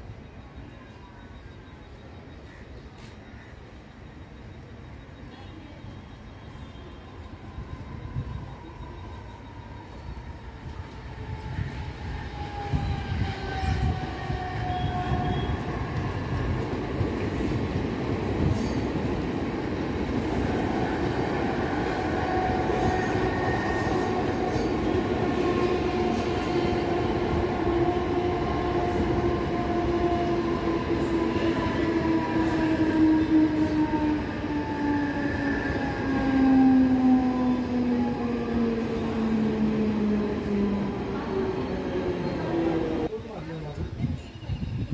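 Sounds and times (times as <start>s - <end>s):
train wheels rumbling on rails: 7.0s - 43.2s.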